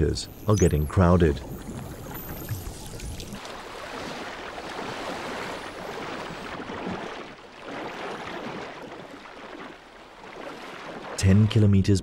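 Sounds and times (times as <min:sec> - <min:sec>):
sea water splashing and rushing: 0:00.0 - 0:12.0.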